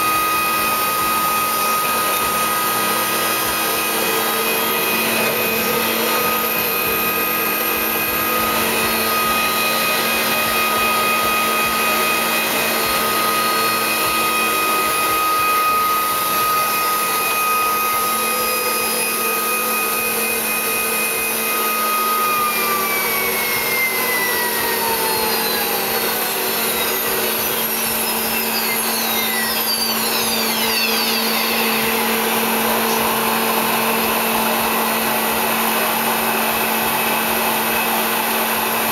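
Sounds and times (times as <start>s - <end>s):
grinder spindle whine: 0.0s - 38.9s
low machine hum: 0.0s - 38.9s.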